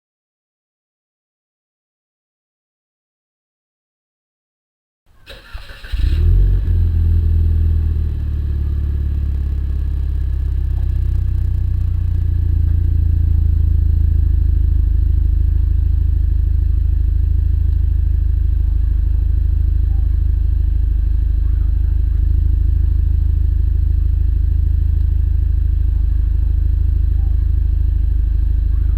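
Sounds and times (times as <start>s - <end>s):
car engine starting and idling: 5.3s - 28.9s.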